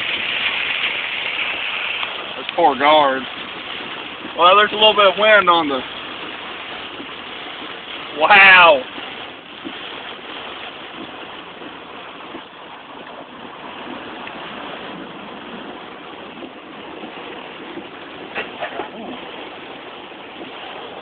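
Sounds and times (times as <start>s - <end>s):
rain and wind against a vehicle: 0.0s - 21.0s.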